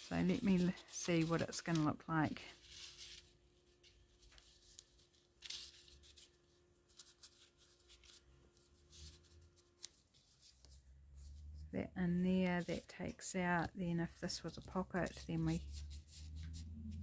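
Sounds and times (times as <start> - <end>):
paper rustling: 0.0 - 11.7, 12.3 - 17.0.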